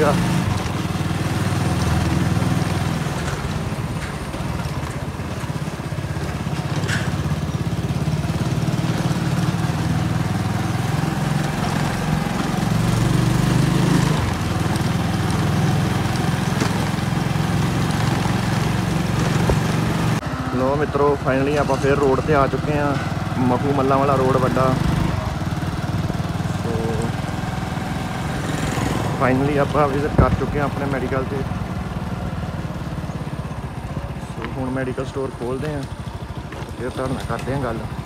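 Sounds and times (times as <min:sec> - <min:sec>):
small motorcycle engine running: 0:00.0 - 0:38.0.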